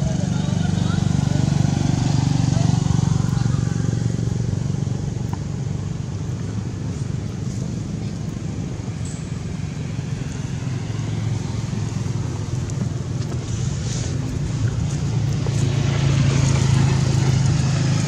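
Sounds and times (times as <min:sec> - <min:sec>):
motor vehicles rumbling: 0:00.0 - 0:18.0.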